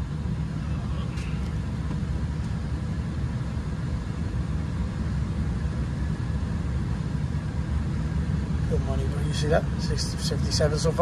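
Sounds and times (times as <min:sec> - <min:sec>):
air conditioner running: 0:00.0 - 0:11.0.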